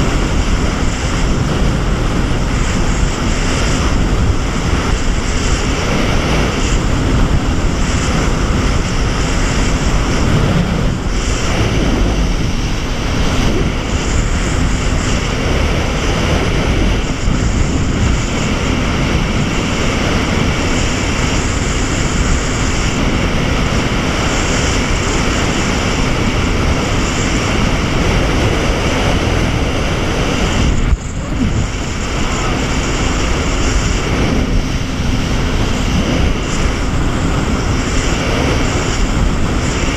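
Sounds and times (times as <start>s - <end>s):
jet ski engine drone: 0.0s - 39.9s
rushing water: 0.0s - 39.9s
wind buffeting microphone: 0.0s - 39.9s.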